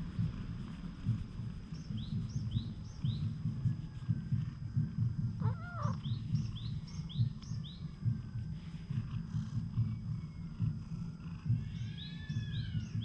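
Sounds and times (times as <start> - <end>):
cat purring: 0.0 - 13.0
small bird chirping: 0.1 - 13.0.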